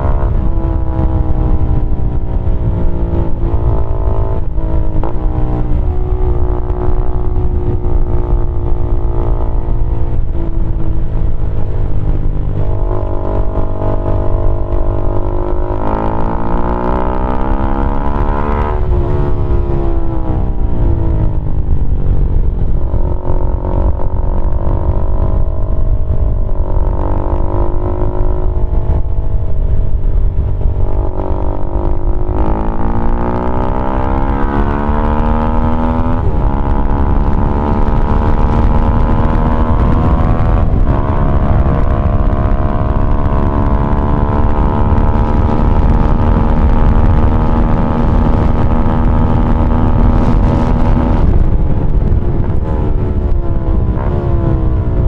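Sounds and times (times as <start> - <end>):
motorcycle engine running loud: 0.0 - 55.0.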